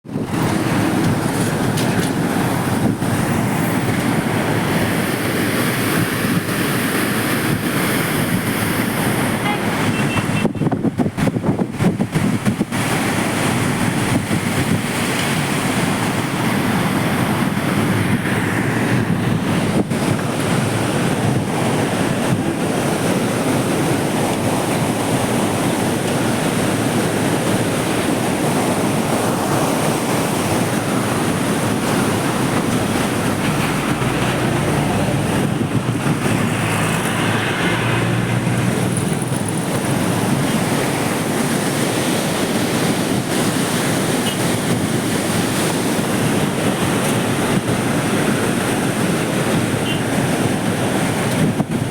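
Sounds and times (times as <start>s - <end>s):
water rushing through gates: 0.0s - 51.9s.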